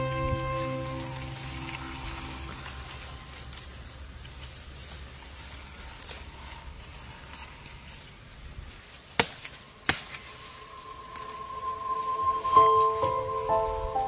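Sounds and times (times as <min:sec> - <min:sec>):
rustling in grass: 0:00.0 - 0:14.0.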